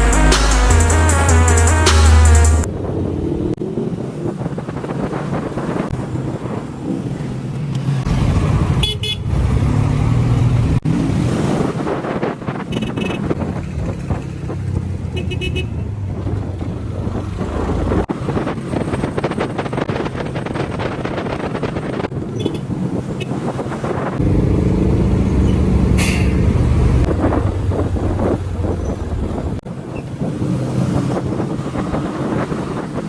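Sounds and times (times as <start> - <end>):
road and wind noise: 2.6 - 33.0.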